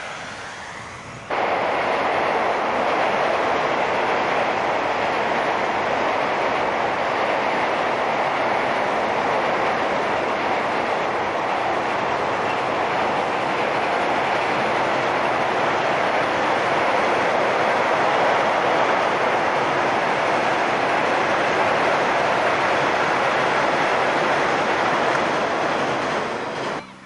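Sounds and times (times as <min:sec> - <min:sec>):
train wheels rushing on rails: 0:00.0 - 0:27.0.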